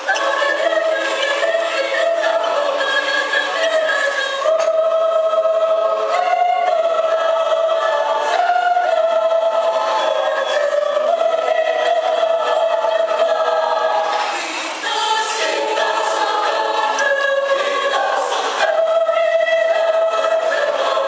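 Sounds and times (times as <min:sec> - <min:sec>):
mixed choir singing: 0:00.0 - 0:21.0.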